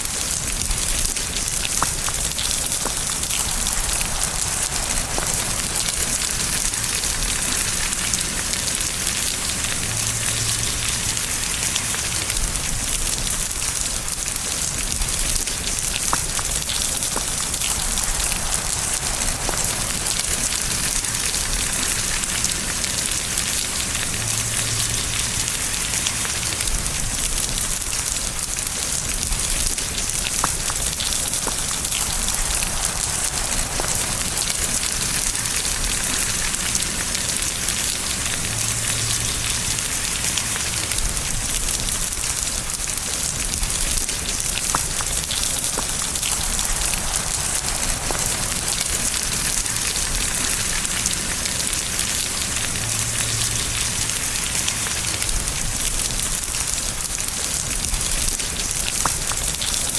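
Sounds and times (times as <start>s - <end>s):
raindrop ticks: 0.0s - 59.9s
steady rain: 0.0s - 59.9s.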